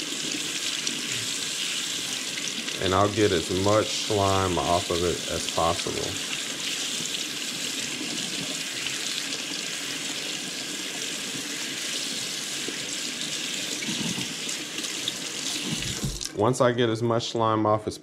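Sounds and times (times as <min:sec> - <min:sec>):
faucet running into steel sink: 0:00.0 - 0:16.4.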